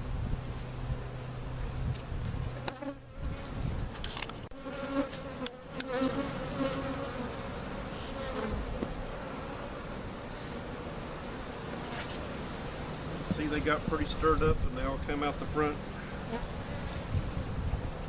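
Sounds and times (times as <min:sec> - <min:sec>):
bees buzzing: 0:01.0 - 0:14.4, 0:15.2 - 0:18.0.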